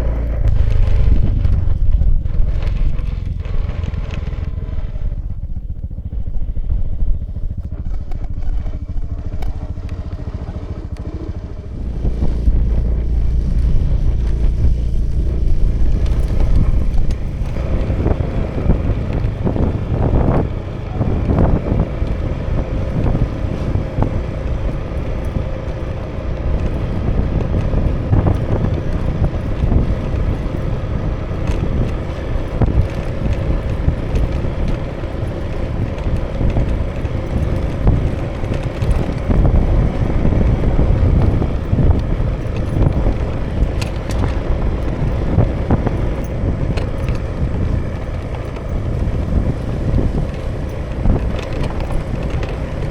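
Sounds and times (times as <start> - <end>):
scooter engine running: 0.0 - 52.9
wind rumbling over microphone: 0.0 - 52.9.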